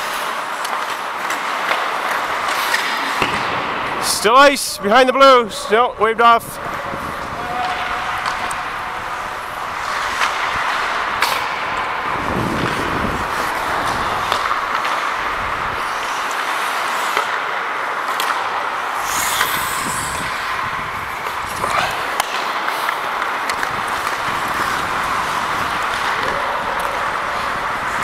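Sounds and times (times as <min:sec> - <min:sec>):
hockey sticks and puck clacking: 0:00.0 - 0:28.0
skates scraping on ice: 0:00.0 - 0:28.0.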